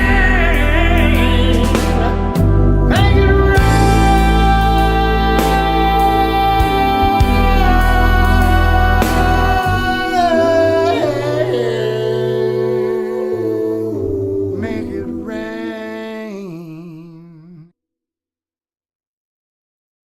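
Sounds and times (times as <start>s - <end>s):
sustained instrumental chords: 0.0s - 16.8s
man humming wordlessly: 0.0s - 17.7s.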